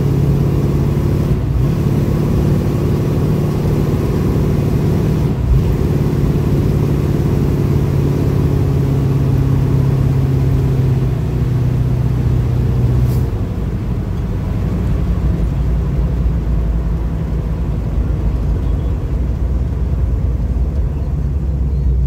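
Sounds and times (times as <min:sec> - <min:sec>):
car engine cruising: 0:00.0 - 0:22.0.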